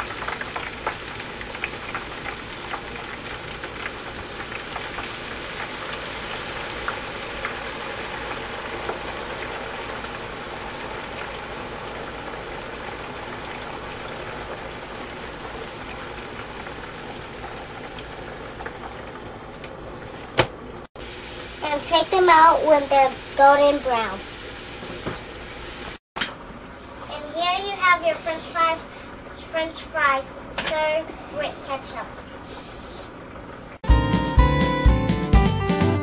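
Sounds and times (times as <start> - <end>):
oil bubbling in deep fryer: 0.0 - 33.8.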